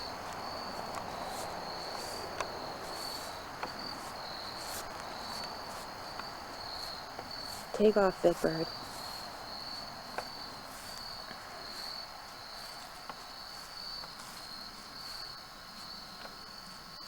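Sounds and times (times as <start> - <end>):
faint ticks: 0.0 - 8.0, 8.6 - 17.0
insects trilling: 0.0 - 17.0.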